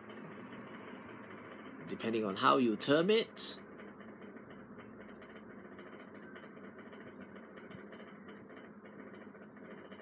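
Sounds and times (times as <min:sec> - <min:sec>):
faint background hum and hiss: 0:00.0 - 0:10.0.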